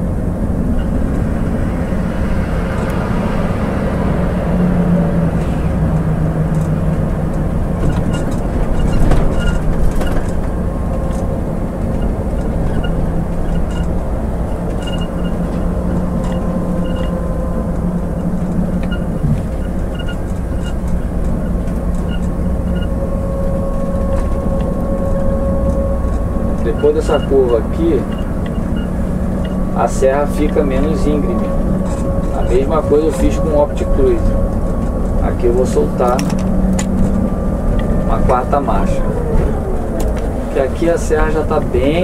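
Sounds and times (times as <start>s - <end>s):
diesel engine droning: 0.0s - 42.0s.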